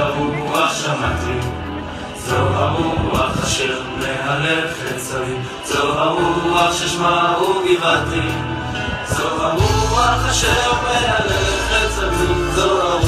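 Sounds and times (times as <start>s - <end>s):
song with voices singing in chorus: 0.0s - 13.0s.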